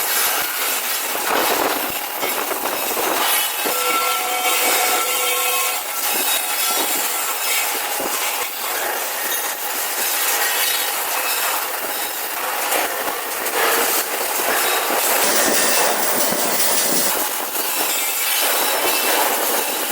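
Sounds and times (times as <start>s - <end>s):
welding arc crackling sizzle: 0.0s - 19.9s.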